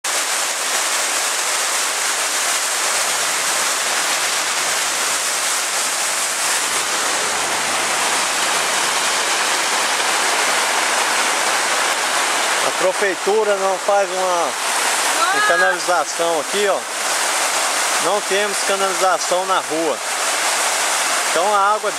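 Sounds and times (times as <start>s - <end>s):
water rushing down a street: 0.0s - 21.9s.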